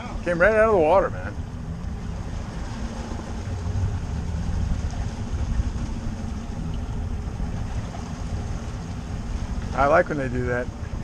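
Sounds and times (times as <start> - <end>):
boat moving through water: 0.0 - 11.0
outboard motor running: 0.0 - 11.0.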